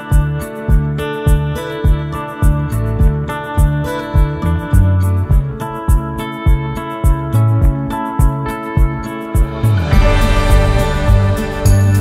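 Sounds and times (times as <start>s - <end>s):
plucked guitar-like music with beat: 0.0s - 12.0s.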